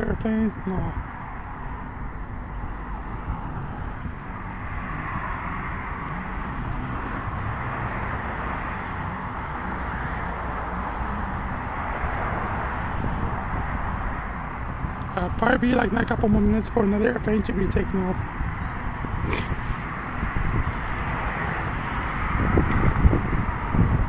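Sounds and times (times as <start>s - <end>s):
outdoor background rush: 0.0s - 24.0s
wind rumble on microphone: 0.0s - 24.0s.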